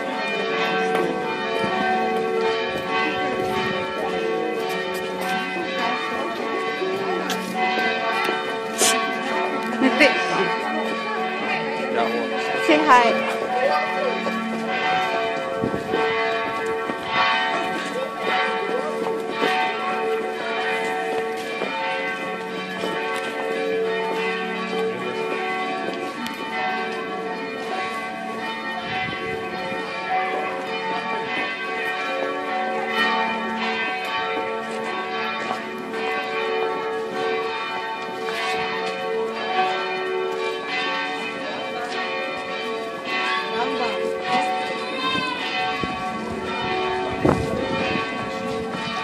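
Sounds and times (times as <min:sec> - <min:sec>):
church bells ringing: 0:00.0 - 0:49.0.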